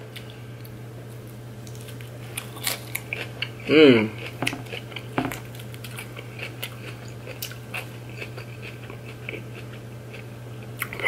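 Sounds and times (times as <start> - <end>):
steady low hum: 0.0 - 11.0
person chewing food: 0.1 - 11.0.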